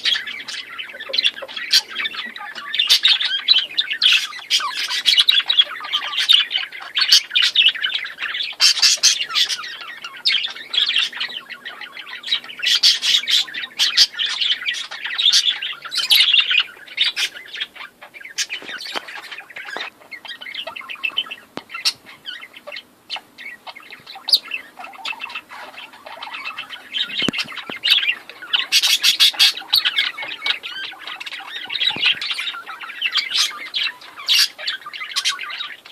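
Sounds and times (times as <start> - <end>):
birds chirping and squawking: 0.0 - 35.9.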